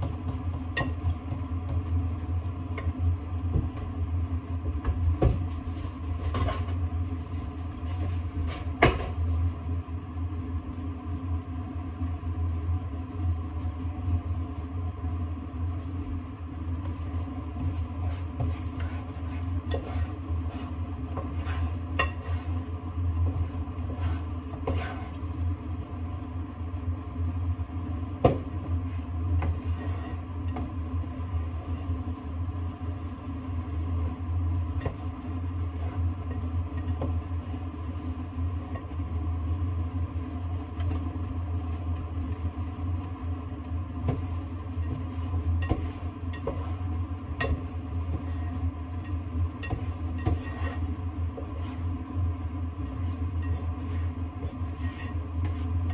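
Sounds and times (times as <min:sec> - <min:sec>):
low mechanical hum: 0:00.0 - 0:55.9.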